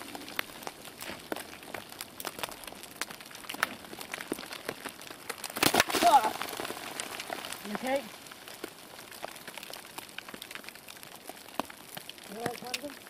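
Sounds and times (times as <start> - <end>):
ice and snow chips pattering: 0.0 - 13.0.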